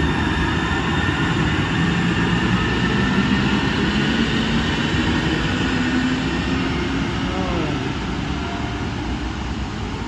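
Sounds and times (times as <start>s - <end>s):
train wheels on rail: 0.0s - 10.0s.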